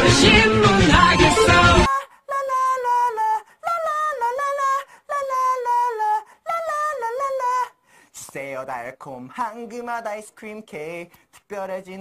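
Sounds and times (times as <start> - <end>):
high voice singing wordless phrase: 0.0 - 12.0.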